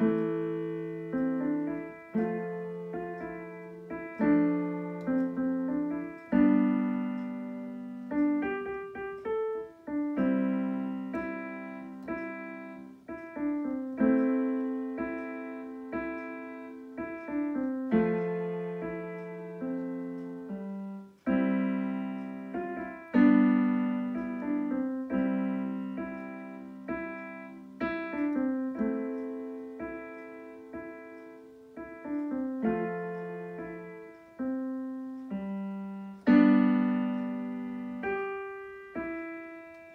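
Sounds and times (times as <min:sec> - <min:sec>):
solo piano chords and melody: 0:00.0 - 0:39.9.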